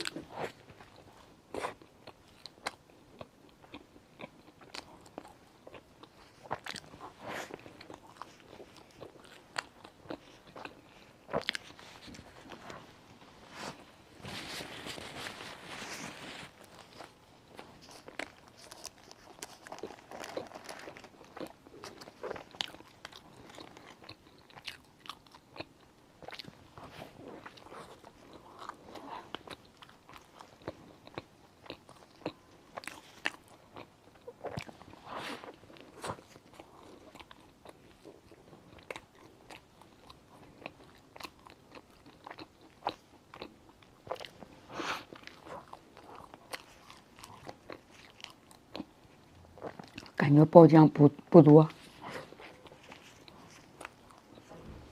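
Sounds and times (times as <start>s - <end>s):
biting and chewing food: 0.0s - 50.2s, 51.1s - 54.9s.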